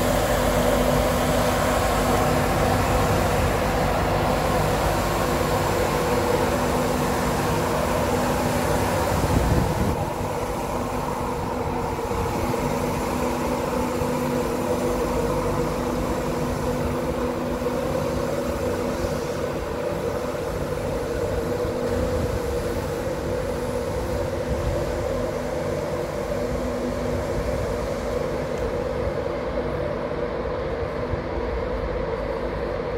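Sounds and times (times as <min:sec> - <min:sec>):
electric locomotive humming: 0:00.0 - 0:32.9
low train rumble: 0:00.0 - 0:32.9.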